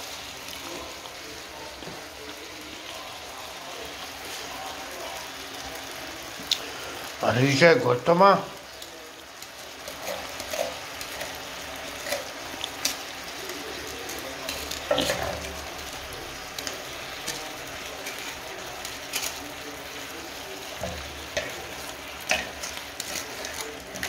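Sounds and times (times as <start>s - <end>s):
vegetables and chicken sizzling in pan: 0.0s - 24.0s.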